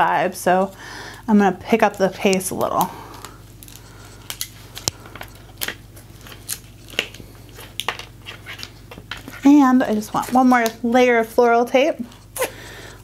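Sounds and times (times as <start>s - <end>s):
tape and paper crinkling: 1.6s - 12.5s.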